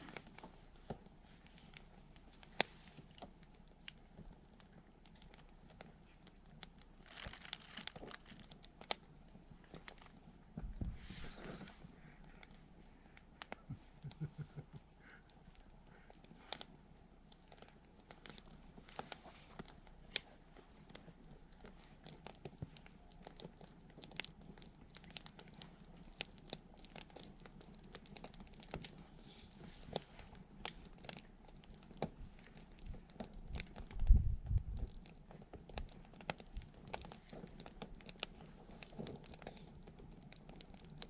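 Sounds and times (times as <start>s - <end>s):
campfire crackling and popping: 0.0s - 41.0s
fire hissing: 7.8s - 41.0s.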